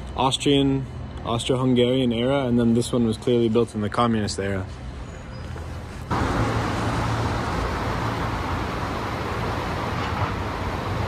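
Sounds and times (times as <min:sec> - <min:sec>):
street ambience rush: 0:00.0 - 0:11.0.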